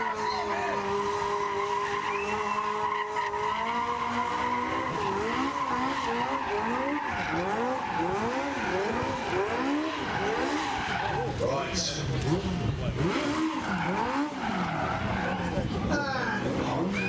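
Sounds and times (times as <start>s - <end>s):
tyres screeching on tarmac: 0.0s - 12.3s, 13.0s - 17.0s
car engine revving high: 0.0s - 17.0s.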